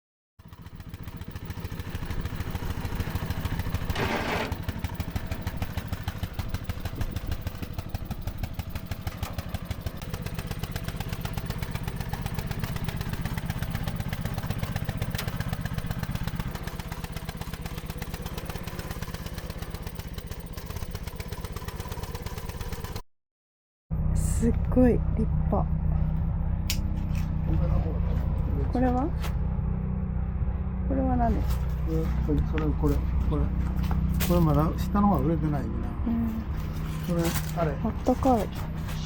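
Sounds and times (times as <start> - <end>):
small engine running: 0.4 - 23.0, 23.9 - 39.0.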